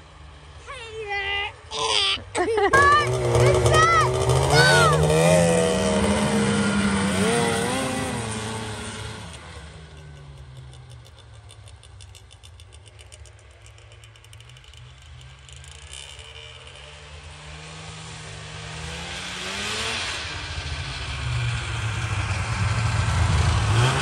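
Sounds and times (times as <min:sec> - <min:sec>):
distant snowmobile engines: 0:00.0 - 0:24.0
snowmobile revving and passing: 0:00.1 - 0:24.0.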